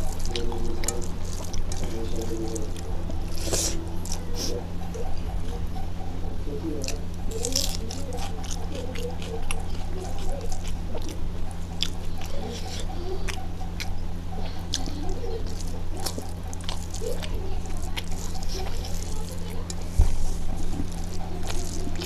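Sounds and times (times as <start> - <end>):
fingers mixing rice on steel plate: 0.0 - 22.0
person chewing food: 0.0 - 22.0
steady low hum: 0.0 - 22.0.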